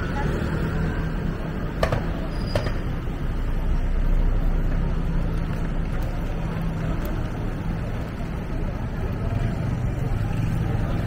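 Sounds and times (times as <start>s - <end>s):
city street traffic: 0.0s - 11.0s
vehicle engine humming: 0.0s - 11.0s.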